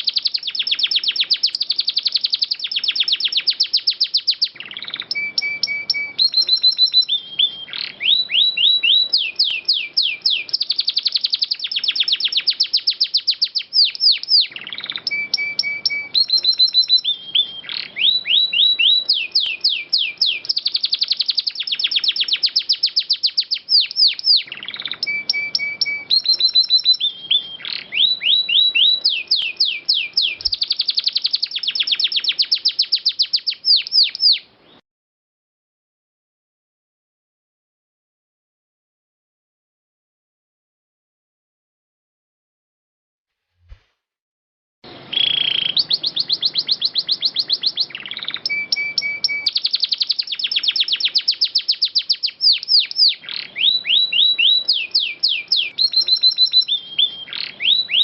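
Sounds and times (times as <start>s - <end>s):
canary singing: 0.0s - 34.8s, 44.8s - 58.0s.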